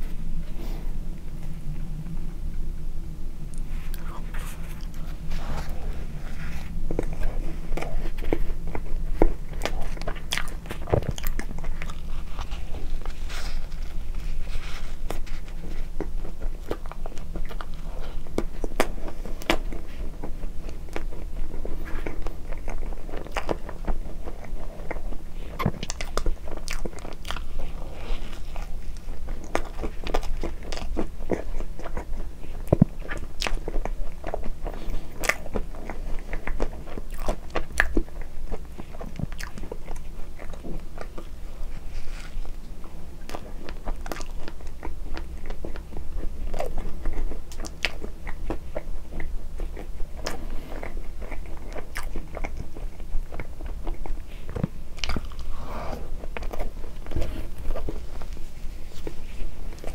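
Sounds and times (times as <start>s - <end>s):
person chewing bread: 0.0s - 59.9s.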